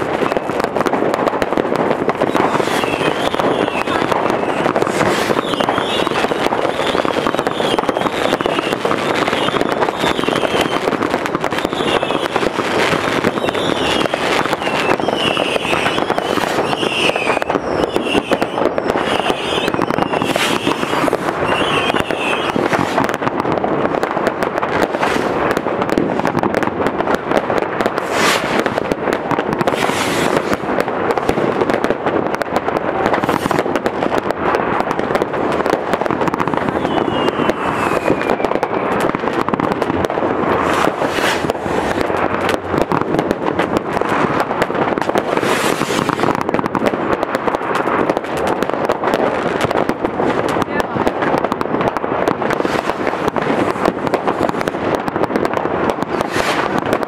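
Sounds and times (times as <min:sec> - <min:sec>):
fireworks crackling: 0:00.0 - 0:57.0
sharp firework bangs: 0:00.0 - 0:57.0.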